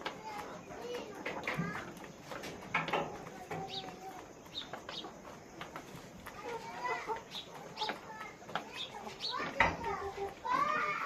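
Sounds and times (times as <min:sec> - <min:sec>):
chickens calling: 0:00.0 - 0:11.0.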